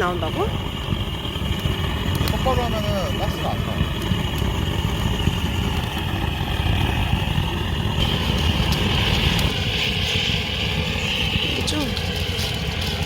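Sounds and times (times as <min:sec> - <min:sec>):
gas torch roaring and hissing: 0:00.0 - 0:13.0.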